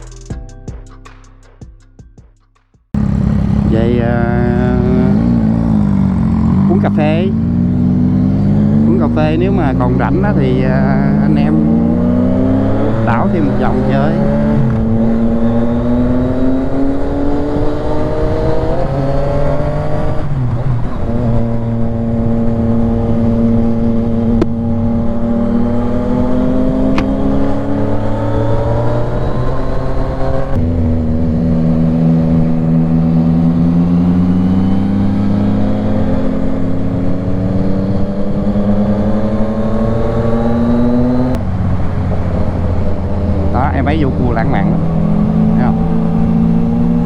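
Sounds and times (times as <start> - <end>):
motorcycle engine revving: 3.0 - 47.0
wind and road noise: 3.0 - 47.0.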